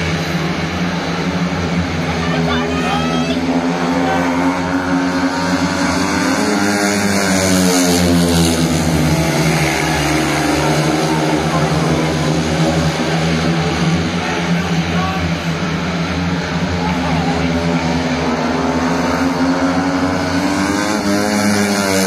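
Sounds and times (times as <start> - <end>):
motorcycle engines racing: 0.0 - 22.0.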